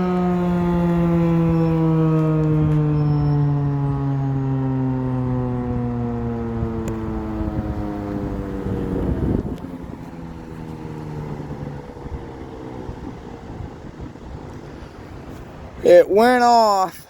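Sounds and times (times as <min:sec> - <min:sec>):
warning siren winding down: 0:00.0 - 0:16.2.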